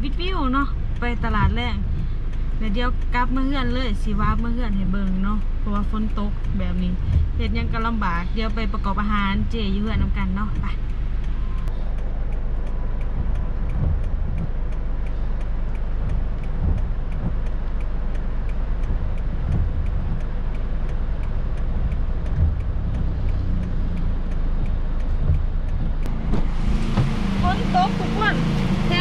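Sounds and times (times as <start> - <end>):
car engine and road rumble: 0.0 - 29.0
regular light ticking: 0.0 - 29.0.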